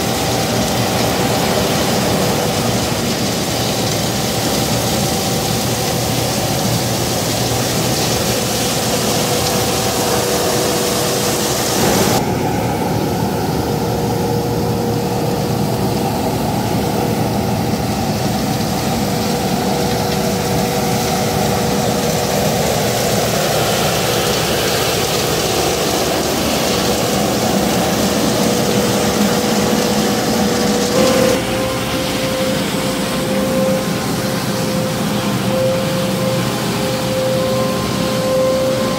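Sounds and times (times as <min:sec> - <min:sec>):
road sweeper engine whining: 0:00.0 - 0:38.9.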